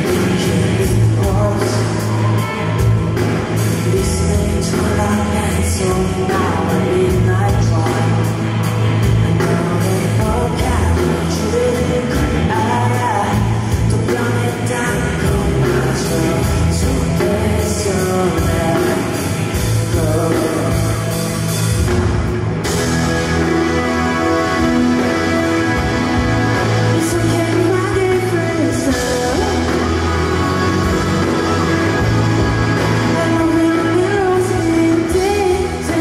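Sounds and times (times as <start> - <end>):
man singing: 0.0 - 2.8, 3.6 - 21.4, 23.4 - 36.0
live rock band playing: 0.0 - 36.0.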